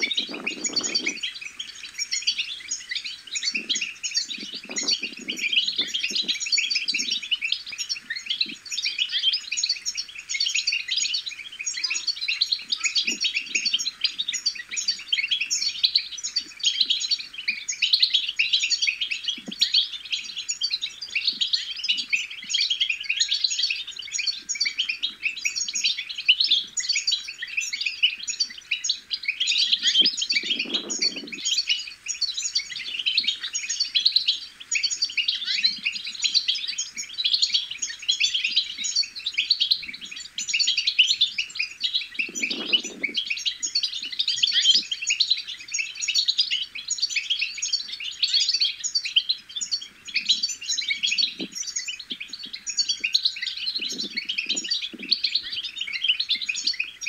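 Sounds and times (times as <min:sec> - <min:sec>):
goldfinch twittering: 0:00.0 - 0:57.0.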